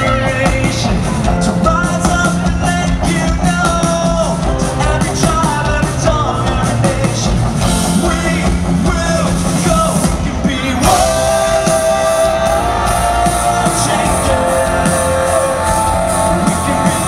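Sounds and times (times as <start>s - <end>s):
drum kit: 0.0s - 17.0s
electric guitar: 0.0s - 17.0s
man singing lead vocals: 0.0s - 17.0s.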